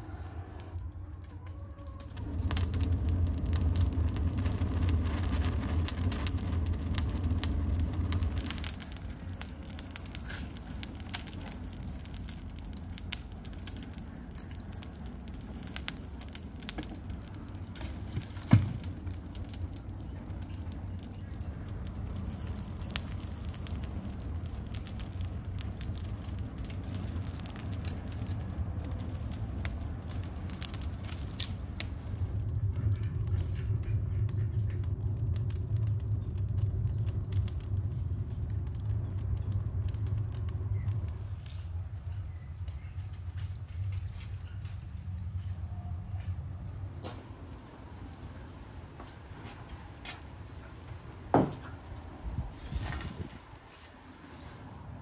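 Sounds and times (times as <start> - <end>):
low rush of flames: 0.0 - 55.0
fire crackling and snapping: 0.5 - 55.0.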